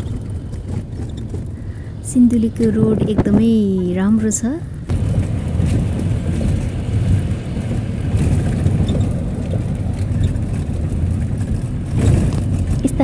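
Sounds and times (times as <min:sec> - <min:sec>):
vehicle engine and tyres rumbling: 0:00.0 - 0:13.0.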